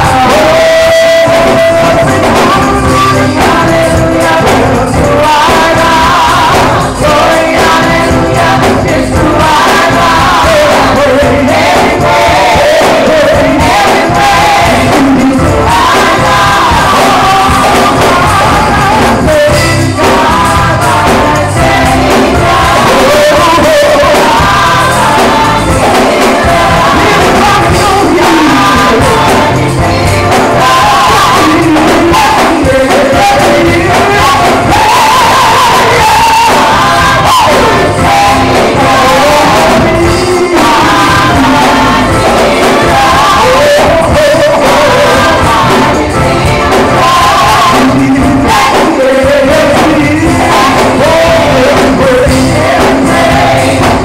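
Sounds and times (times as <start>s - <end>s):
gospel choir singing: 0.0s - 54.0s
instrumental accompaniment with beat: 0.0s - 54.0s.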